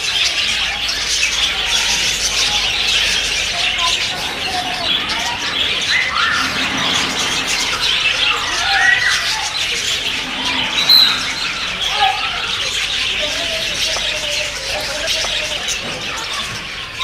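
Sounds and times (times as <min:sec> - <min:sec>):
birds squawking: 0:00.0 - 0:17.0
chorus of bird chirps: 0:00.0 - 0:17.0.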